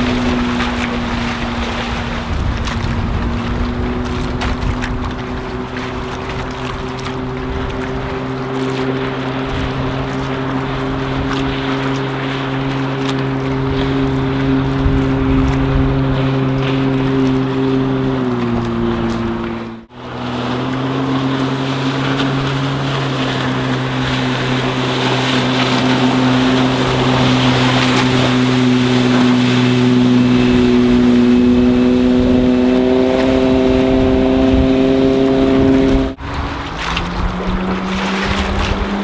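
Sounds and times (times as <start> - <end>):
speedboat engine running hard: 0.0 - 39.0.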